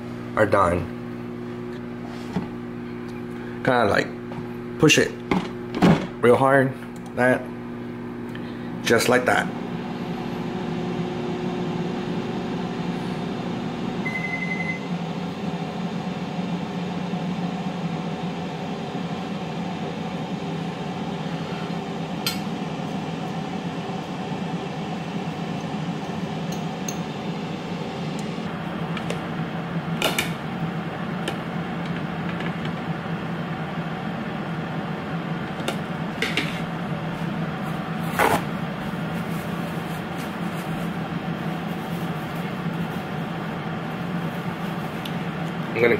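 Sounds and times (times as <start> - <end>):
air fryer fan humming: 0.0 - 45.9.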